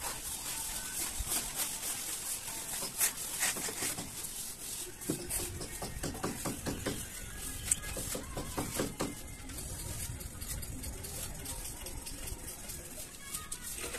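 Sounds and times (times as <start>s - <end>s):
float scraping on plaster: 0.0s - 11.7s.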